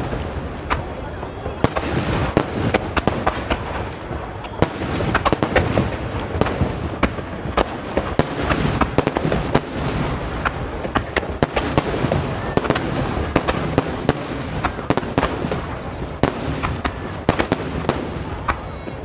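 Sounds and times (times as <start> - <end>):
rumble of booms and echoes: 0.0 - 19.0.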